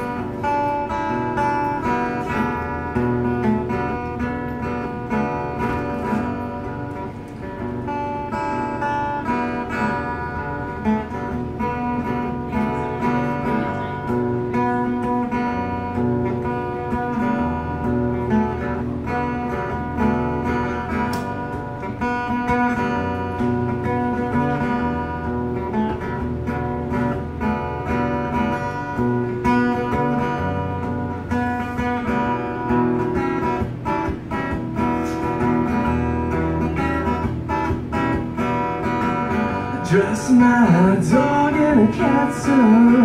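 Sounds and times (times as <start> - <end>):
acoustic guitar strumming: 0.0 - 43.0.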